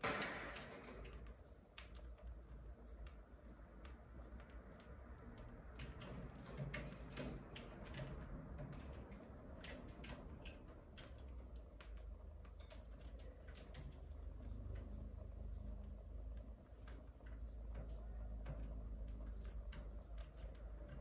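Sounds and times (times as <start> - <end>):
bird pecking seeds: 0.0 - 21.0.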